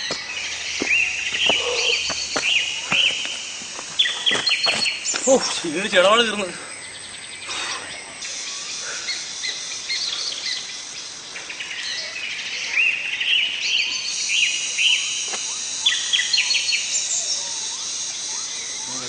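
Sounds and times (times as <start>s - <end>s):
birds chirping: 0.0s - 19.0s
high-pitched insect drone: 0.0s - 19.0s.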